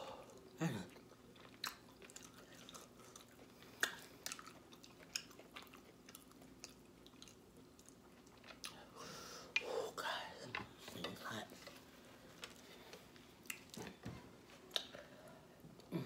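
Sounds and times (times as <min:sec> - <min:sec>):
person chewing with wet smacks: 0:00.2 - 0:09.7, 0:11.6 - 0:15.9.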